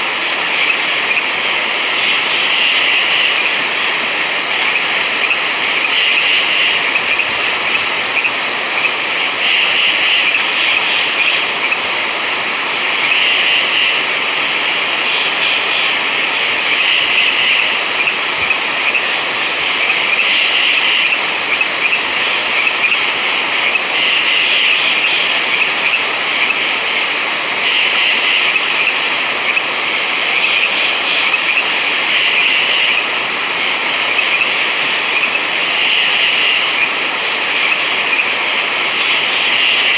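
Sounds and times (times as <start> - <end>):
frogs trilling: 0.0 - 12.0, 12.7 - 39.9.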